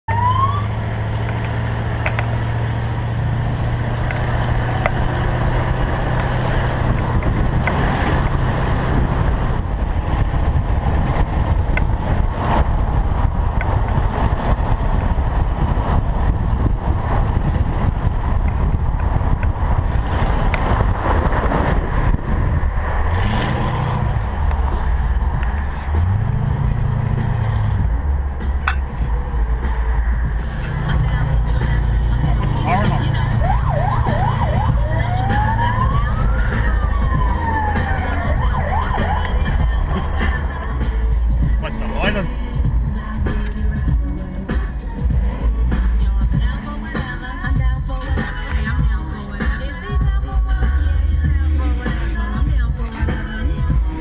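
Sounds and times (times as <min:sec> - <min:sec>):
wind and road rush: 0:00.0 - 0:54.0
car engine revving: 0:00.1 - 0:54.0.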